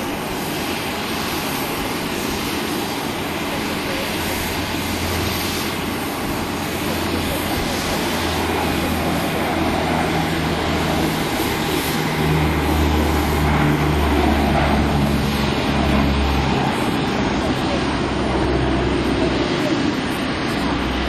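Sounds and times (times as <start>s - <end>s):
turboprop aircraft engines droning: 0.0s - 21.0s.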